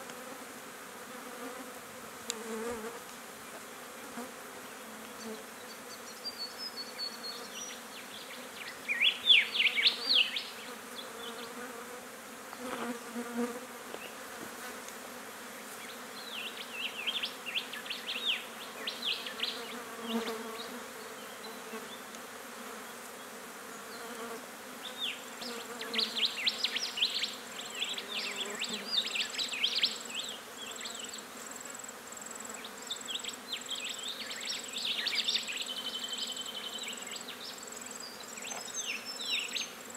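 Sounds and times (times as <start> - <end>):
flies buzzing: 0.0 - 39.9.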